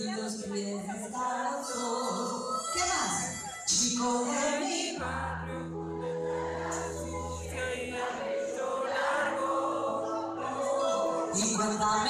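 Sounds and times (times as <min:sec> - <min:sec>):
live band with singing: 0:00.0 - 0:12.0.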